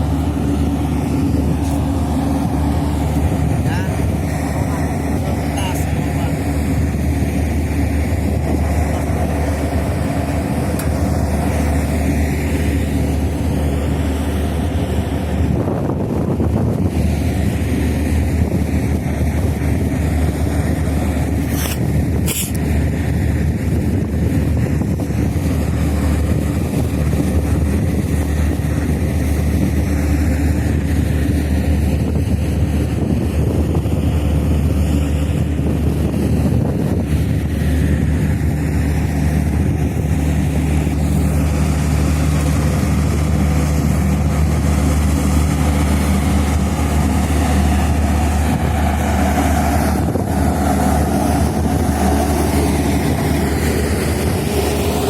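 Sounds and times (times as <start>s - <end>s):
ferry engines droning: 0.0s - 55.0s.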